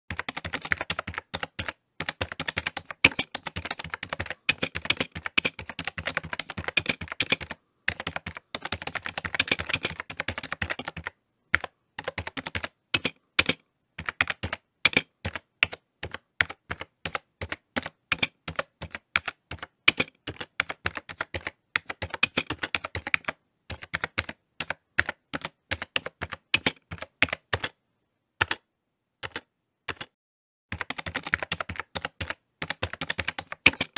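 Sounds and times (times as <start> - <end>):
typing on a keyboard: 0.1 - 27.8, 28.4 - 33.9.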